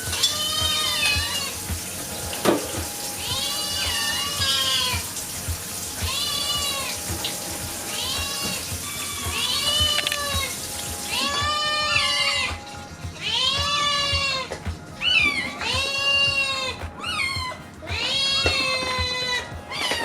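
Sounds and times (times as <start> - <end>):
kittens meowing: 0.0 - 20.0.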